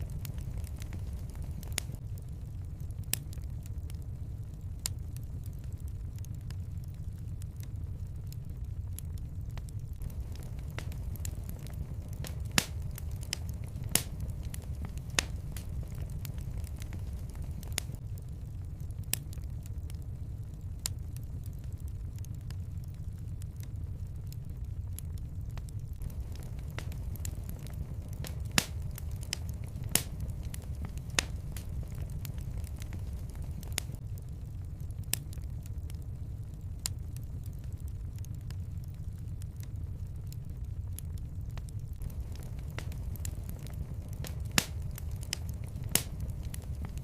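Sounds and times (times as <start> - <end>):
sharp fire pops: 0.0 - 20.1, 20.8 - 36.0, 36.8 - 47.0
low steady rumble: 0.0 - 47.0
wood fire crackling: 0.0 - 47.0.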